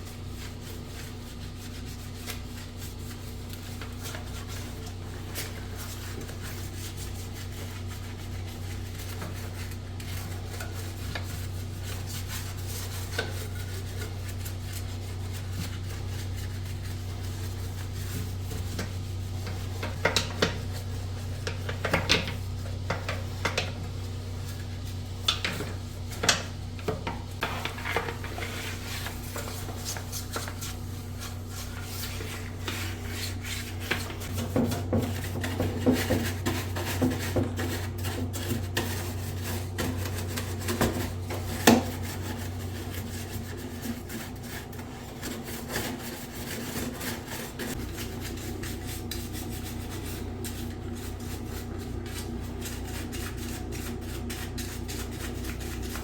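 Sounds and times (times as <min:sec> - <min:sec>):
scrubbing on hard plastic: 0:00.0 - 0:56.0.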